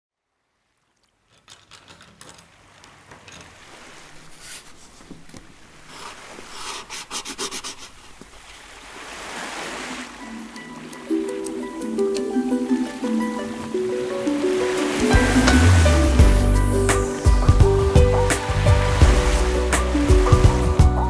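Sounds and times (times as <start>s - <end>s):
wind: 0.7s - 21.0s
water rushing and splashing: 2.4s - 21.0s.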